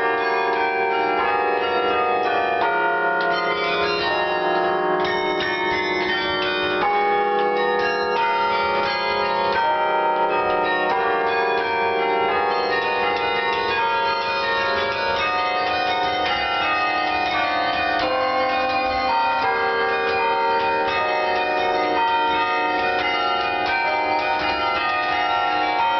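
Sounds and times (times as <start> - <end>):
carillon bells playing a tune: 0.0 - 25.9.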